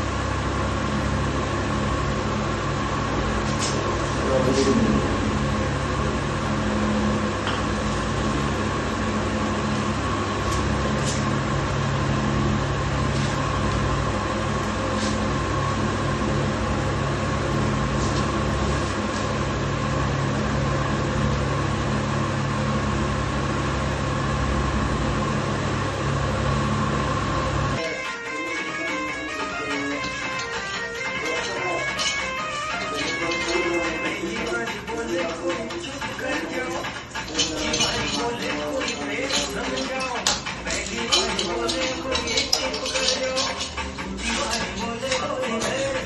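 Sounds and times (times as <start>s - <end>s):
steady machine drone: 0.0s - 46.0s.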